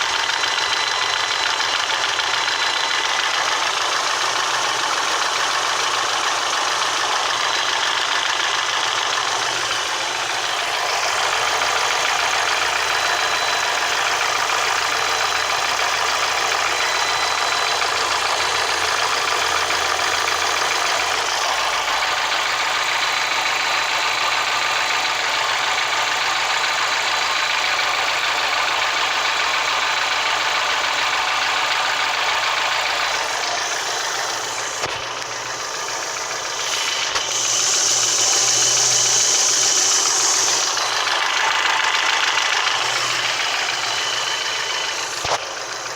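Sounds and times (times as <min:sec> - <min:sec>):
car engine idling with knock: 0:00.0 - 0:45.9.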